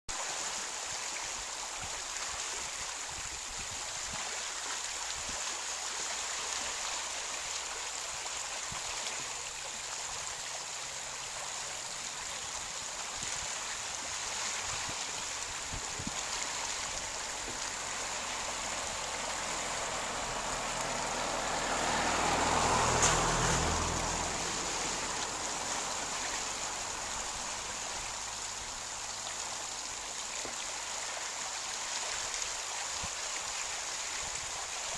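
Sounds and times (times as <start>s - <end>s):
small waves lapping at shore: 0.1s - 34.9s.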